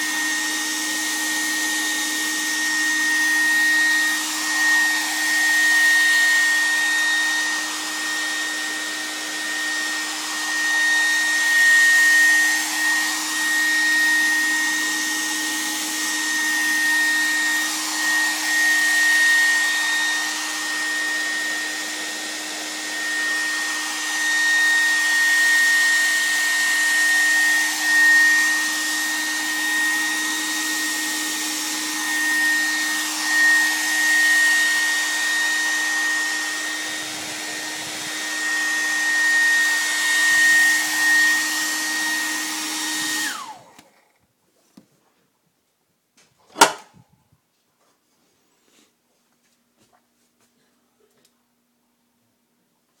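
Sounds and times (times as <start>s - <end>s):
hair dryer whining: 0.0s - 44.2s, 46.5s - 47.0s.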